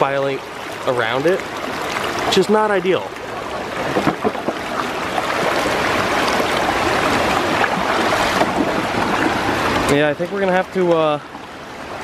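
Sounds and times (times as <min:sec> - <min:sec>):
stream water rushing and splashing: 0:00.0 - 0:12.0.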